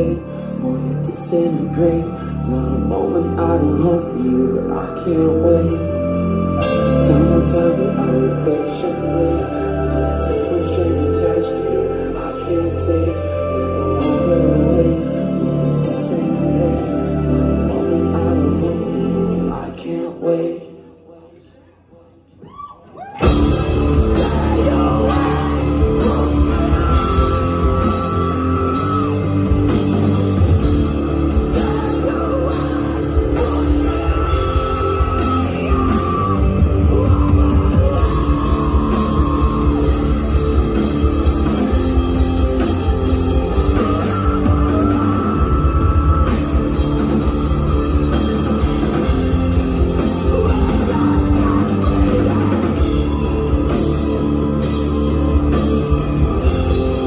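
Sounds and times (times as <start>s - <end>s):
metalcore band playing live: 0.0s - 20.0s, 23.2s - 57.0s.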